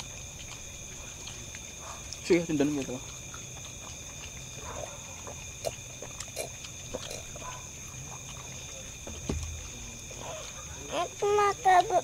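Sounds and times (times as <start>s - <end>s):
night insects droning: 0.0s - 12.0s
wet chewing and smacking: 0.0s - 12.0s.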